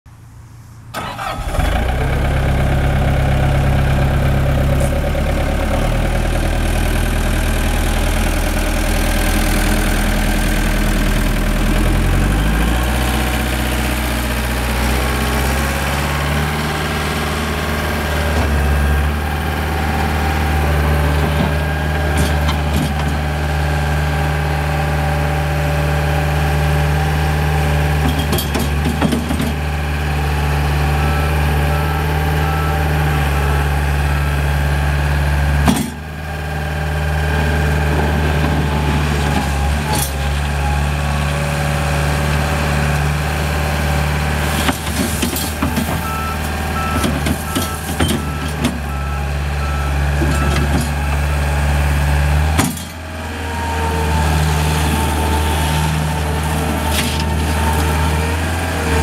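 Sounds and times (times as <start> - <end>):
diesel engine running: 0.1 - 59.0.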